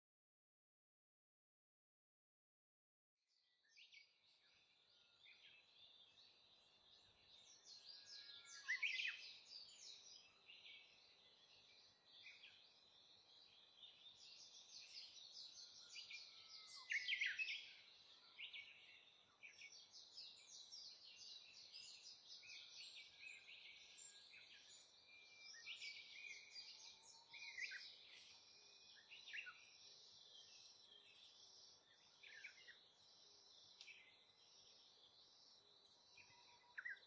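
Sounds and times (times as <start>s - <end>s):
birds twittering: 4.3s - 37.0s.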